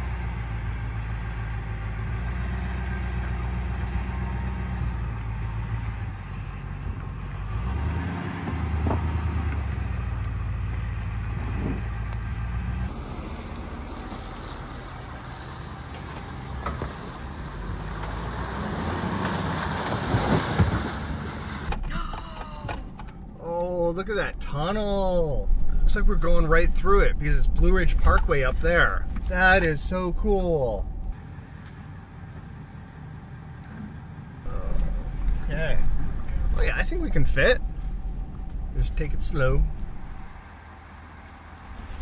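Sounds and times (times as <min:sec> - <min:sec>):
diesel truck engine rumble: 0:00.0 - 0:42.0.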